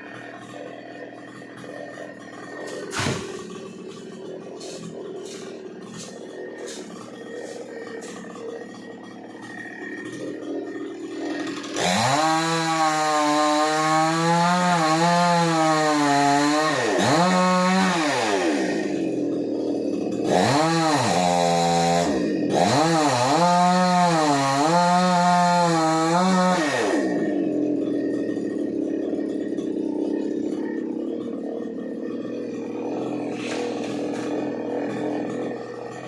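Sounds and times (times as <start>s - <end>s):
chainsaw cutting at high revs: 0.0s - 36.0s.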